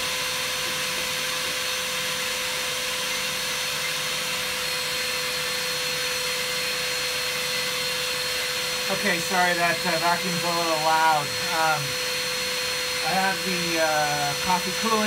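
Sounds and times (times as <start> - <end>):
shop vac running with whine: 0.0 - 15.0.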